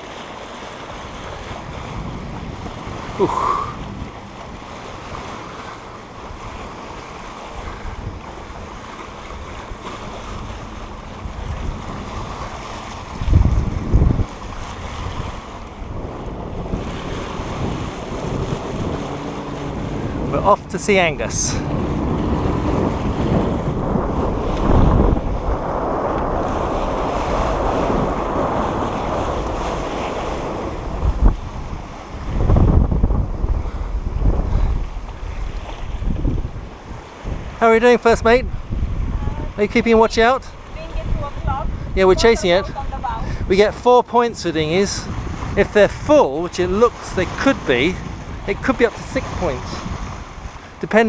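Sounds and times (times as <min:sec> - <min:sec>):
sea water and small waves: 0:00.0 - 0:51.0
wind buffeting microphone: 0:00.0 - 0:51.0.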